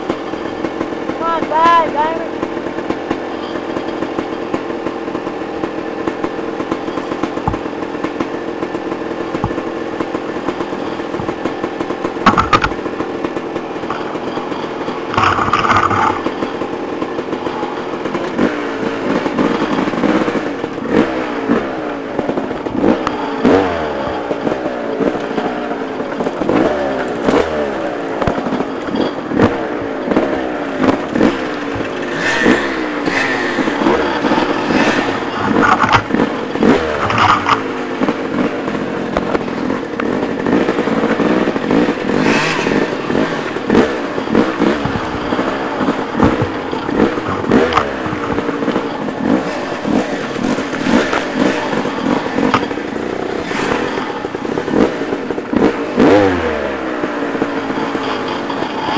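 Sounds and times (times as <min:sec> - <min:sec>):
dirt bike engine revving: 0:00.0 - 0:58.9
sharp clatter: 0:00.0 - 0:58.9
rattling scrape: 0:05.6 - 0:58.9.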